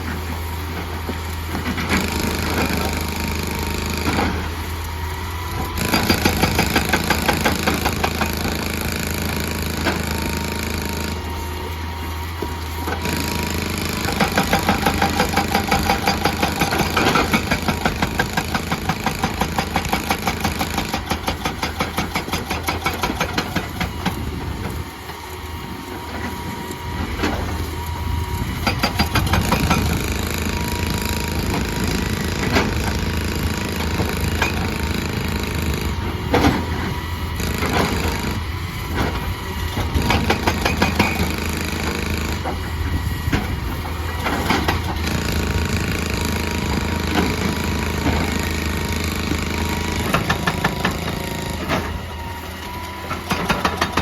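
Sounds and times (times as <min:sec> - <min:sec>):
diesel engine humming: 0:00.0 - 0:54.0
hydraulic rock breaker hammering: 0:00.0 - 0:54.0.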